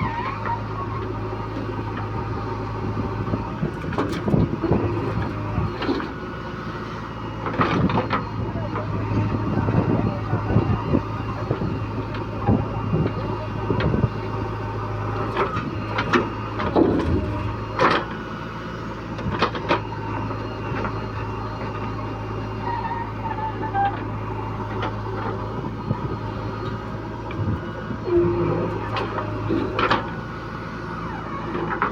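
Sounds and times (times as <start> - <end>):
heavy diesel machinery running: 0.0 - 31.9.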